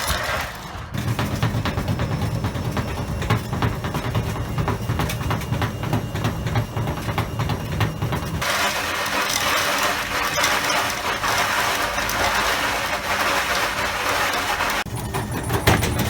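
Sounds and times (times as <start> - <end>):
washing machine rumble: 0.0 - 16.0
objects knocking in drum: 0.9 - 16.0.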